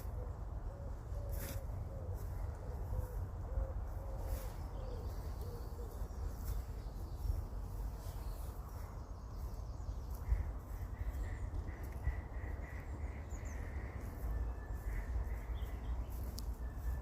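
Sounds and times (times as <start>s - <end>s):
birds calling: 0.0s - 17.0s
steady low rumble: 0.0s - 17.0s.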